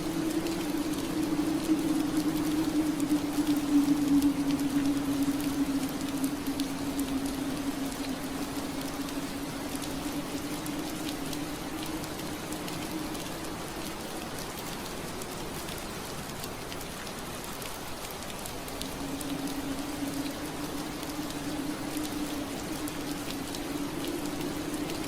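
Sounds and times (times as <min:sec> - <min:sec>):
rain on a window pane: 0:00.0 - 0:25.0.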